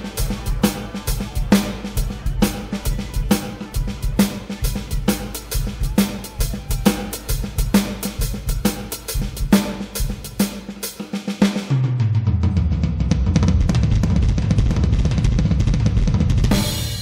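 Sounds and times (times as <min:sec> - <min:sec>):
electronic drum kit: 0:00.0 - 0:17.0.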